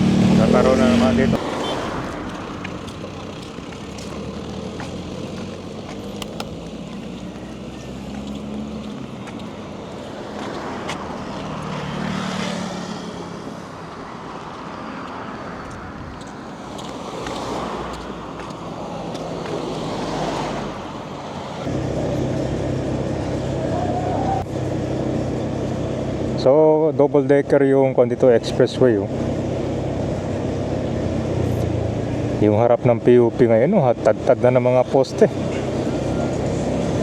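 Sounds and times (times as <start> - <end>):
tyre and street noise: 0.0 - 37.0
vehicle engines running: 0.0 - 37.0
vehicles passing: 0.0 - 37.0.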